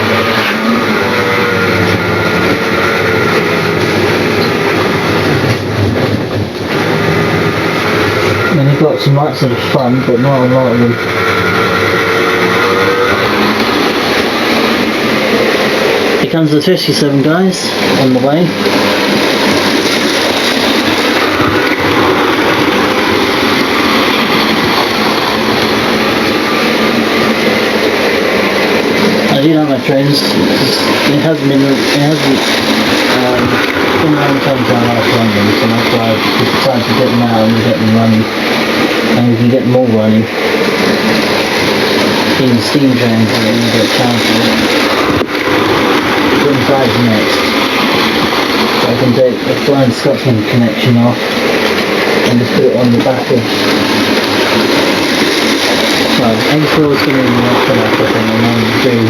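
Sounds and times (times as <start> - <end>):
model train running on track: 0.0 - 59.0
wheels rumbling on rails: 0.0 - 59.0.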